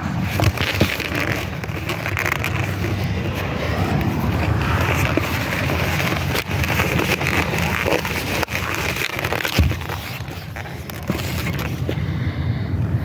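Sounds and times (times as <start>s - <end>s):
balloons rubbing and crackling: 0.0s - 12.0s.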